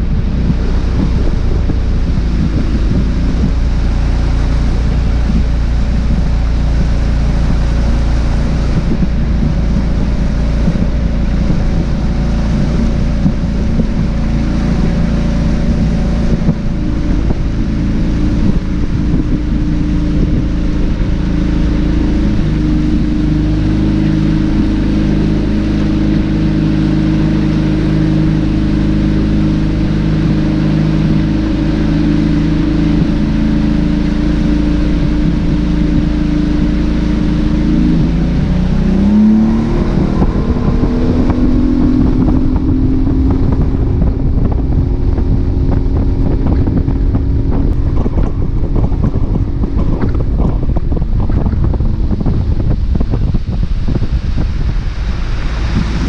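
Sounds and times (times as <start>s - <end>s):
outboard motor running: 0.0s - 56.0s
wind noise: 0.0s - 56.0s
hull knocking on water: 8.4s - 56.0s.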